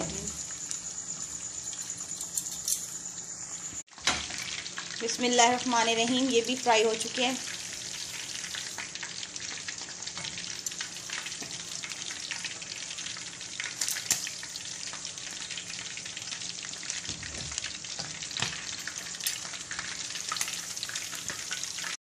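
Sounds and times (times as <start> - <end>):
chicken wings sizzling in hot oil: 0.0 - 22.0.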